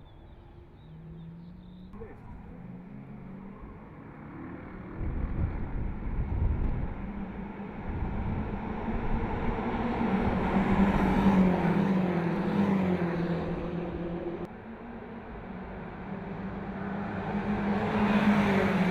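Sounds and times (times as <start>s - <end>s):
car engine passing by: 0.8s - 18.9s.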